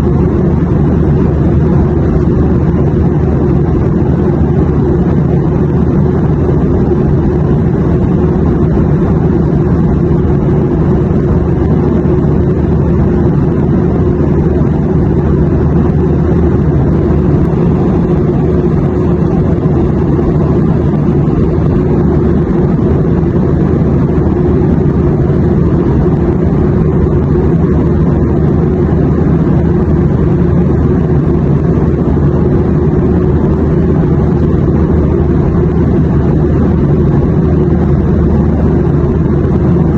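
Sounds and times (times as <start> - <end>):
airplane low rumble: 0.0 - 39.9.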